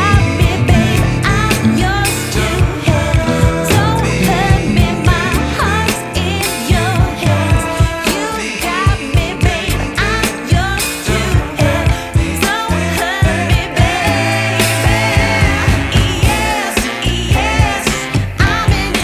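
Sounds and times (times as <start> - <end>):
pop song with vocals and beat: 0.0 - 19.0.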